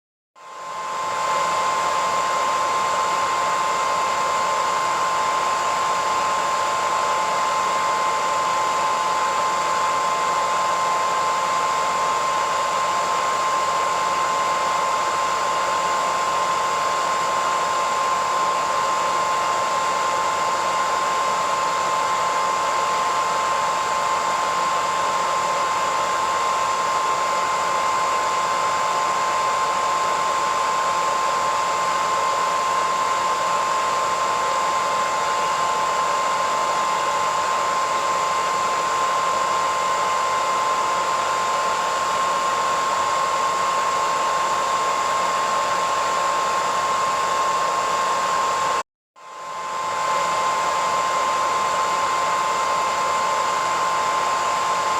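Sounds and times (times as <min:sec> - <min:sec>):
hairdryer running: 0:00.4 - 0:54.9.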